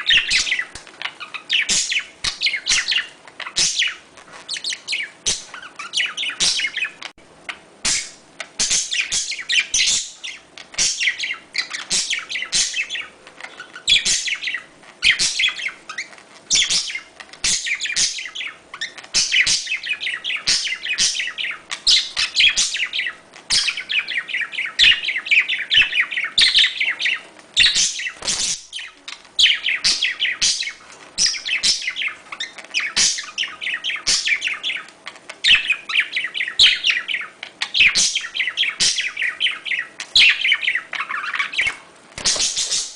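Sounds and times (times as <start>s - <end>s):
budgerigars chattering and warbling: 0.0s - 42.9s.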